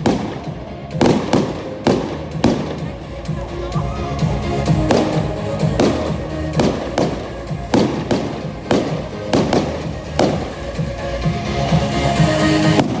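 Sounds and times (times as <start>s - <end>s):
fireworks bursting with sharp bangs: 0.0s - 13.0s
music playing: 0.0s - 13.0s.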